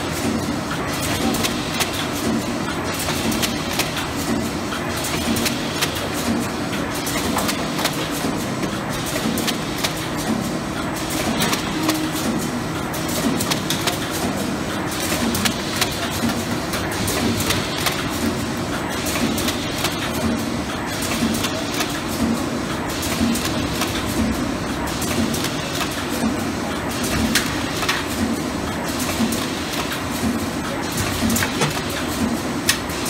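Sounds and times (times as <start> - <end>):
packaging machine humming: 0.0 - 33.0
clicking and clatter of moving parts: 0.1 - 24.3, 25.0 - 33.0.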